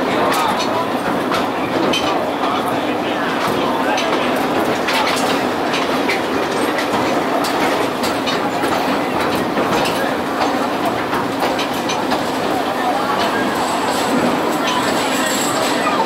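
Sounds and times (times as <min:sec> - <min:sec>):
train wheels rumbling on rail: 0:00.0 - 0:16.0
clicks and clatter of wheels: 0:00.1 - 0:16.0.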